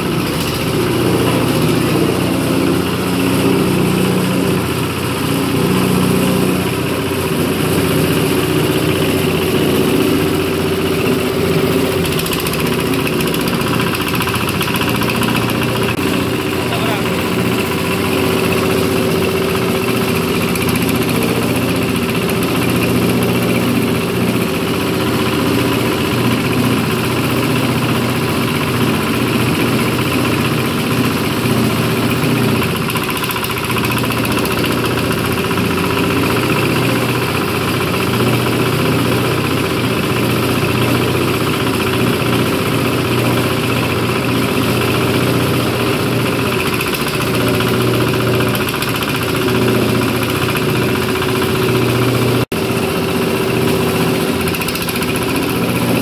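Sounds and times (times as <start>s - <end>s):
coconut husking machine running: 0.0s - 56.0s.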